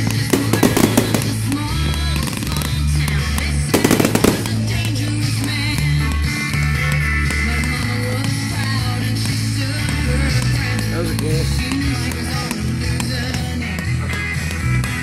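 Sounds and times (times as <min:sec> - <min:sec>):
firework bangs and crackles: 0:00.0 - 0:14.1
rock music with bass and guitar: 0:00.0 - 0:15.0.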